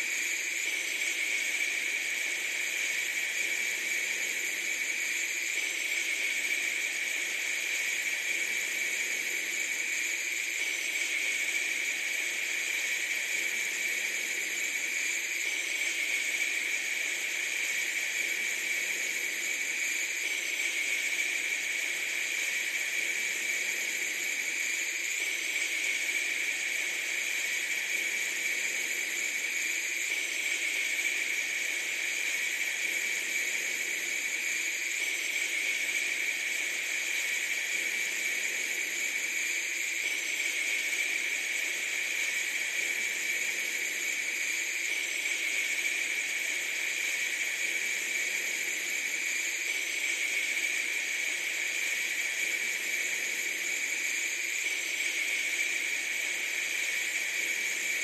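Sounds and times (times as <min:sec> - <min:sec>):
steady bright hiss: 0:00.0 - 0:58.0.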